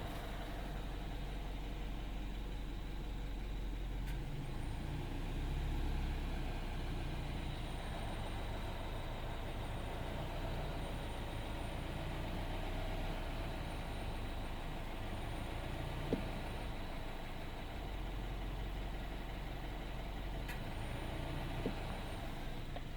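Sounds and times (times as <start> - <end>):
car engine running: 0.0 - 22.9.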